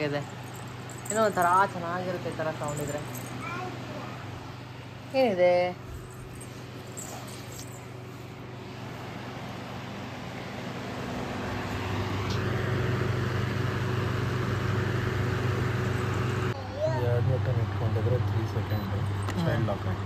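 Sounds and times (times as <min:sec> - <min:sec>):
air purifier fan running: 0:00.0 - 0:20.0.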